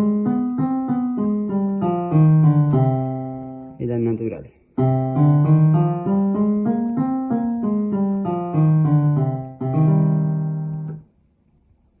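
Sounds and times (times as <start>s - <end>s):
piano playing a scale: 0.0s - 11.0s.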